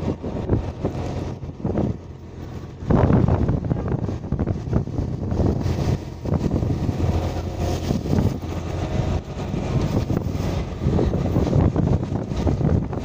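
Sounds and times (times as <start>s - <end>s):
steady low rumble: 0.0s - 13.0s
wind buffeting microphone: 0.0s - 13.0s.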